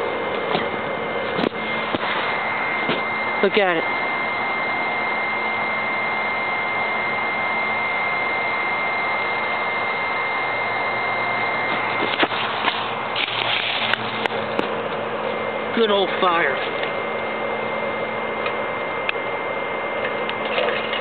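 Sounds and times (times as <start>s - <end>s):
stove fan whirring: 0.0s - 21.0s.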